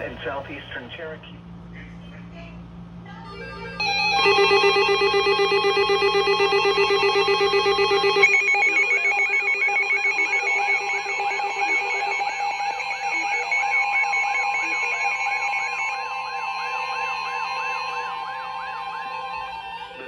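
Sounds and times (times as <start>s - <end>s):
rapid beeping alarm tones: 3.3s - 20.0s
steady high alert tone: 3.3s - 20.0s
warbling siren: 3.3s - 20.0s.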